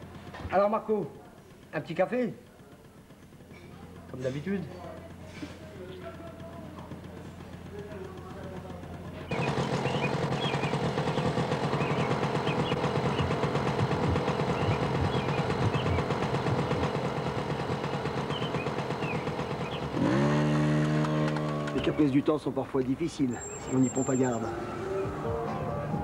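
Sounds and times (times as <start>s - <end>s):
moped engine idling: 0.0s - 26.0s.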